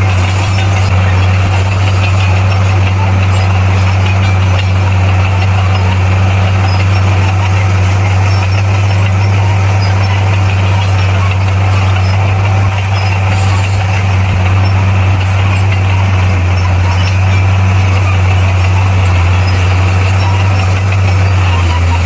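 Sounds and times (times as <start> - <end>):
bulldozer diesel engine droning: 0.0 - 22.0.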